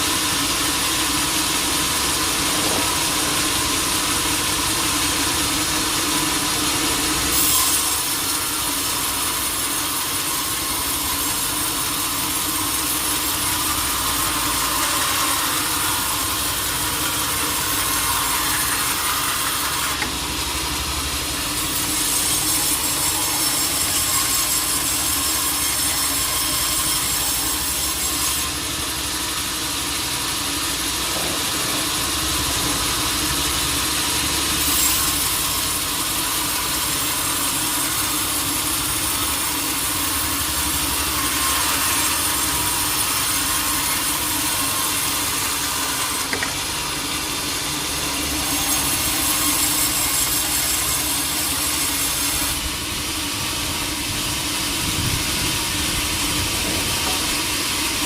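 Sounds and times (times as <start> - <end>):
saw cutting through log: 0.0 - 58.0
saw motor running: 0.0 - 58.0.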